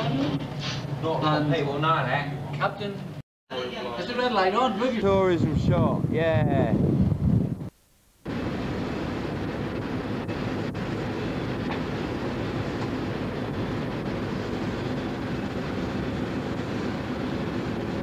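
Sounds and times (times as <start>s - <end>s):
ship engines rumbling: 0.0s - 18.0s.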